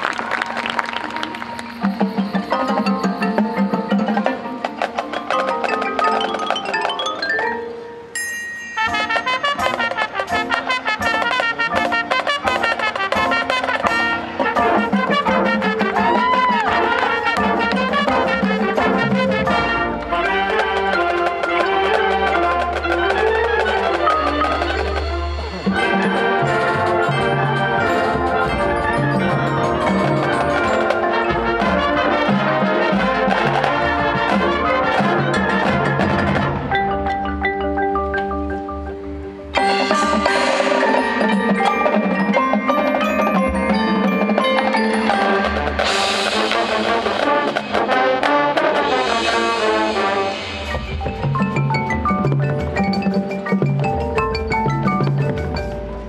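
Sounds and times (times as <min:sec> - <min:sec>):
marching band playing: 0:00.0 - 0:56.0
mallet percussion runs: 0:01.0 - 0:56.0.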